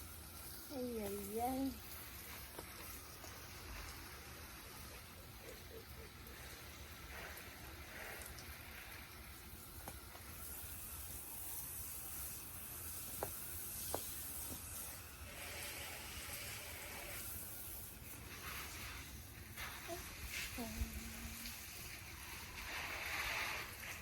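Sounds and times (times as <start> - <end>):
garden hose spraying water: 0.0 - 24.0.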